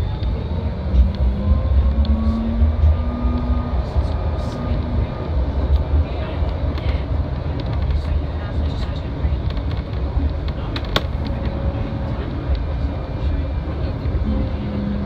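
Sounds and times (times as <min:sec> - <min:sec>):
tram rumble: 0:00.0 - 0:15.0.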